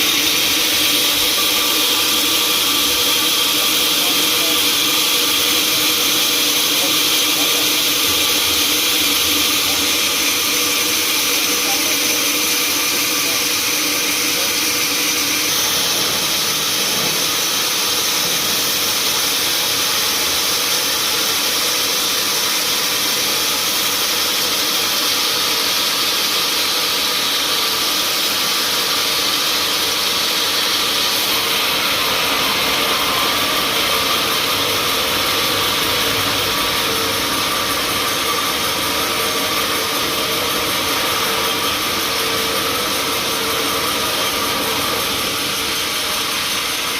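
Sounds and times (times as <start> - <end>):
sawmill saw running: 0.0 - 46.9.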